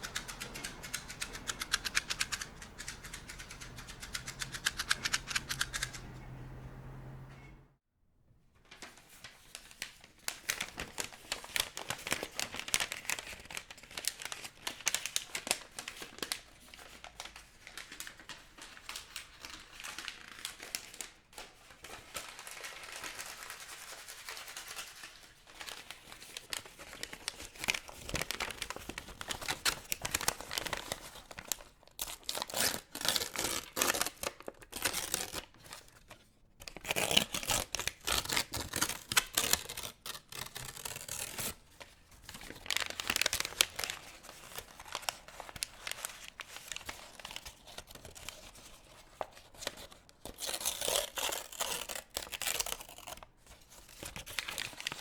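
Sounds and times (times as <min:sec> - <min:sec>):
crumpling and crinkling by hand: 0:00.0 - 0:06.1, 0:08.5 - 0:55.0.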